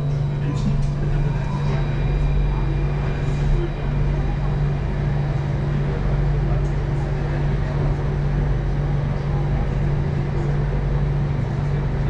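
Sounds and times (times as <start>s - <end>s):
train car hum and rumble: 0.0s - 12.0s.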